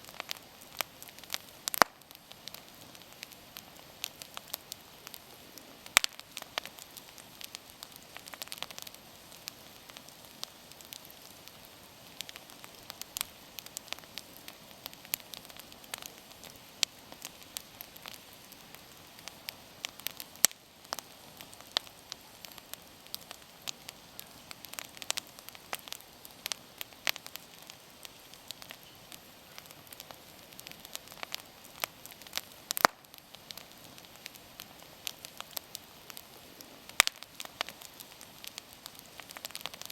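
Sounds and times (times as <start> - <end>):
wood bonfire crackling and popping: 0.0 - 39.9.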